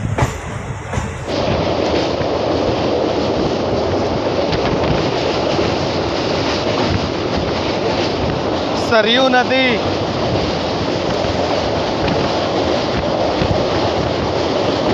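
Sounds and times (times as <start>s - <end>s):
train wheels crossing steel bridge: 0.0s - 14.9s.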